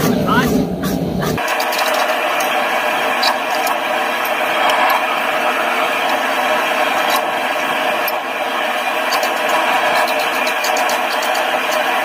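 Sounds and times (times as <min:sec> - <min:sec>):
forge roaring: 0:00.0 - 0:12.0.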